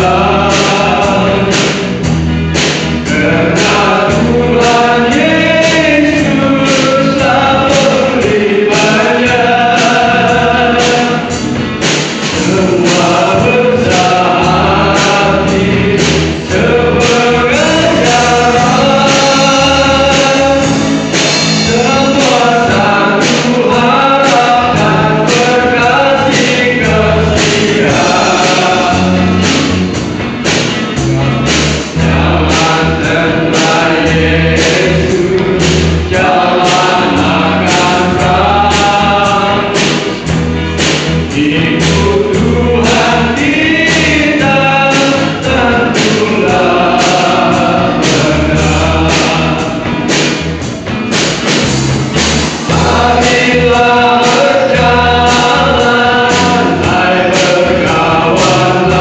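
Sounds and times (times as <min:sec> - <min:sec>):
men singing gospel song: 0:00.0 - 0:51.1, 0:51.7 - 0:59.0
accompaniment with beat and bass: 0:00.0 - 0:59.0.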